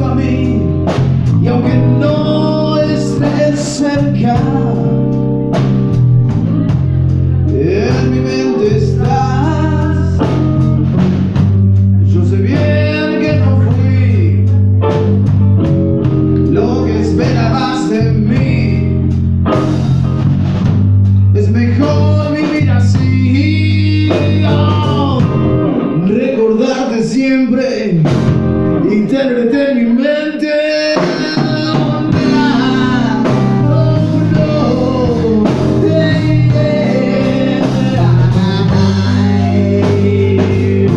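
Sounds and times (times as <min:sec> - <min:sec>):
man singing: 0:00.0 - 0:10.8, 0:11.8 - 0:15.1, 0:16.4 - 0:19.8, 0:21.3 - 0:40.9
drum kit: 0:00.0 - 0:26.2, 0:27.9 - 0:29.1, 0:30.9 - 0:40.9
electric bass line: 0:00.0 - 0:29.7, 0:30.8 - 0:40.9.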